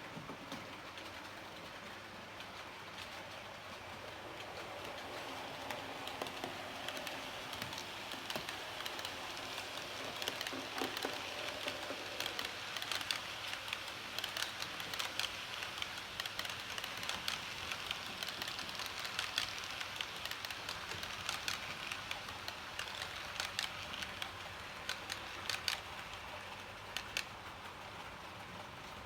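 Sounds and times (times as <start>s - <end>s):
model train running on track: 0.0s - 29.0s
wheels clicking over rail joints: 0.0s - 29.0s.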